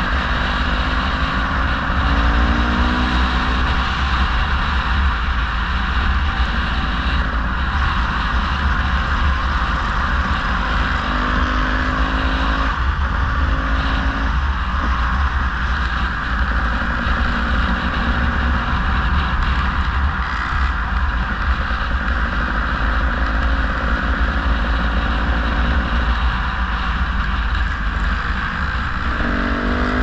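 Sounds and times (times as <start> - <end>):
road and wind noise: 0.0 - 30.0
vehicle engine running: 0.0 - 30.0.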